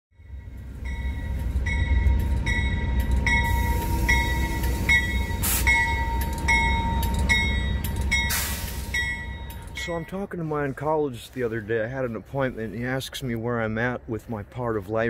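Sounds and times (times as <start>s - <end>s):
train rumble: 0.2s - 15.0s.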